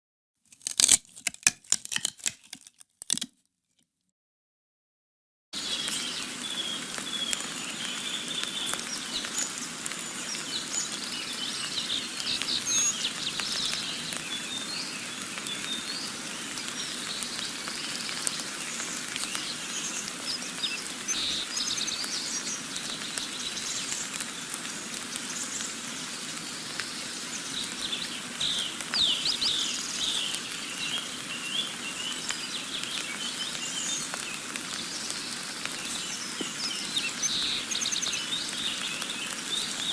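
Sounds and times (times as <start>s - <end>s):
small birds chirping and twittering: 5.6s - 39.9s.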